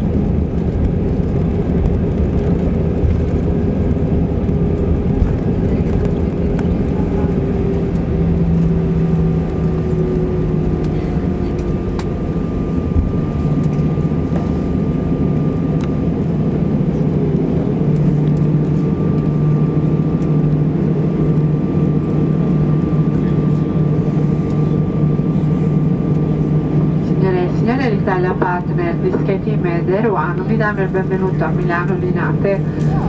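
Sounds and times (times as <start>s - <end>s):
jet engines idling hum: 0.0s - 33.0s.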